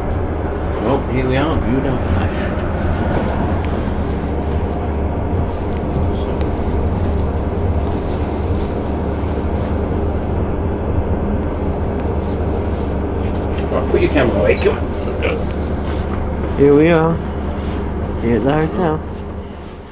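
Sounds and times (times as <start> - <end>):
train rumbling: 0.0 - 19.9.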